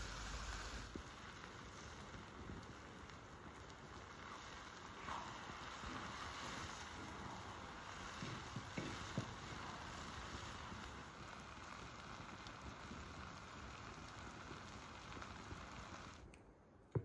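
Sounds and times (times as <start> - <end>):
food sizzling in wok: 0.0 - 16.2.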